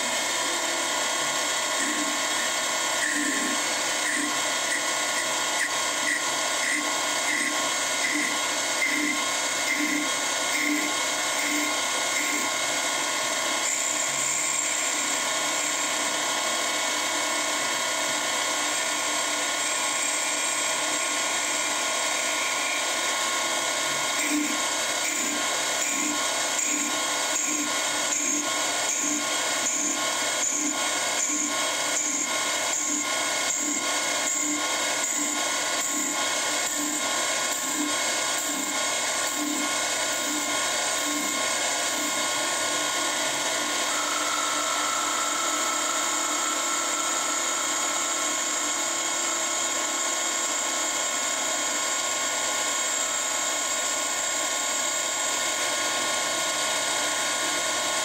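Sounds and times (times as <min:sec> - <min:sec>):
tool cutting into wood: 0:00.0 - 0:54.9
lathe motor whine: 0:00.0 - 0:58.0.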